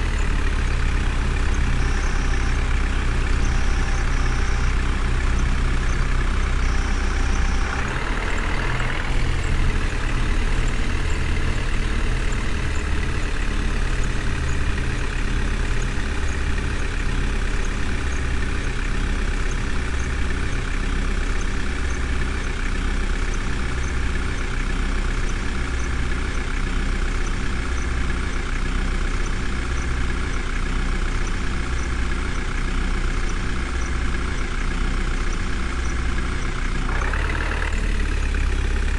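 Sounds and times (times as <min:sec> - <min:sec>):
heavy vehicle engine idling: 0:00.0 - 0:38.9.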